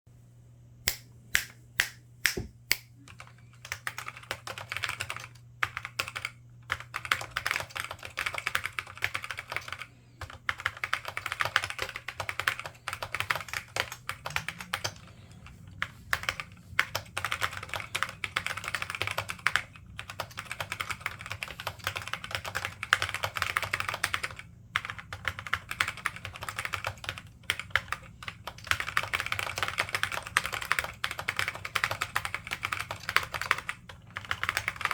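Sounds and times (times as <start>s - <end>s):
typing on a laptop keyboard: 3.1s - 34.9s.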